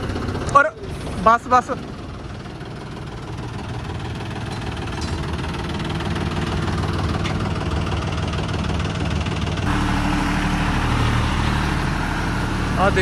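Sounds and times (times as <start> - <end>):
tractor engine idling: 0.0 - 13.0
tractor engine running close: 0.0 - 13.0.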